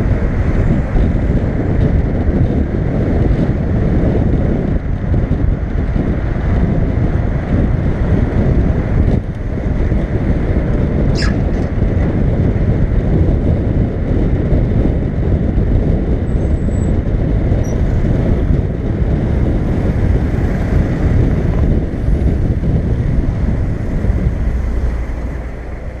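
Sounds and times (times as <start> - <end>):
wind rush and road noise: 0.0 - 26.0.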